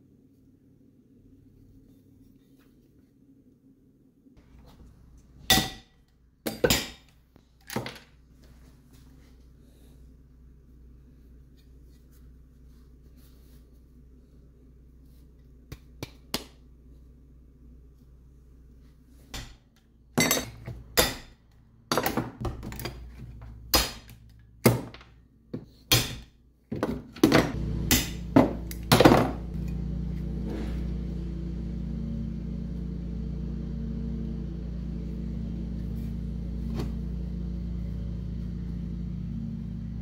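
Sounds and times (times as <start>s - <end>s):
steady low hum: 0.0s - 26.3s, 27.3s - 40.0s.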